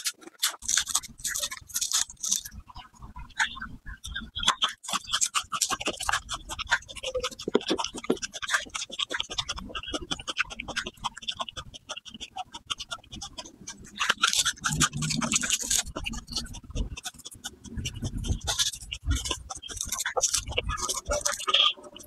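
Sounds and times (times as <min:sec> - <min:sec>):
garlic crunching while chewed: 0:00.0 - 0:02.7, 0:04.0 - 0:22.0.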